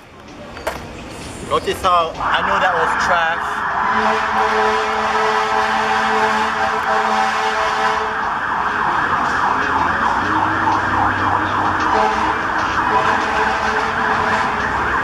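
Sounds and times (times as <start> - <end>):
fire truck siren: 1.8 - 15.0.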